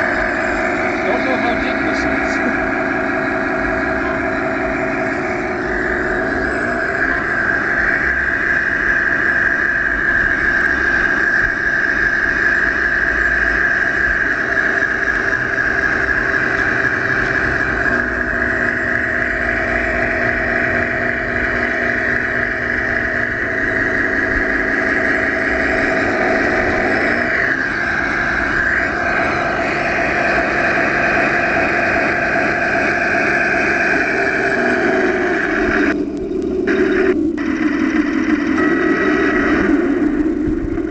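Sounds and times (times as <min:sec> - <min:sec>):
toy tank motor whine: 0:00.0 - 0:40.9.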